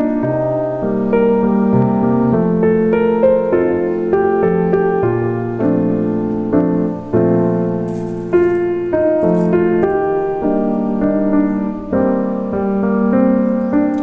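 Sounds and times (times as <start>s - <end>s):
calm solo piano music: 0.0s - 14.0s.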